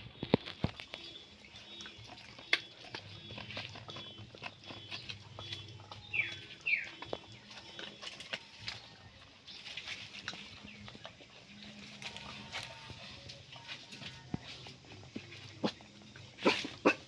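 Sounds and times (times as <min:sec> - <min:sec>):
dog eating: 0:00.0 - 0:17.0.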